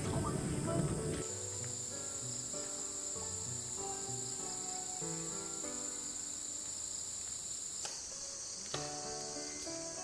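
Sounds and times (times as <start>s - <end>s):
crickets droning: 0.0s - 10.0s
slow background music: 0.0s - 10.0s.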